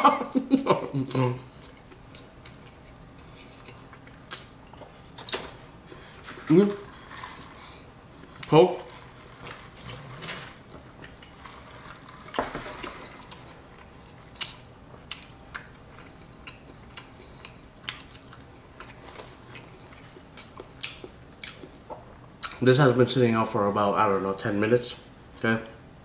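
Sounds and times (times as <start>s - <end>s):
chewing with crunches: 1.1s - 22.6s.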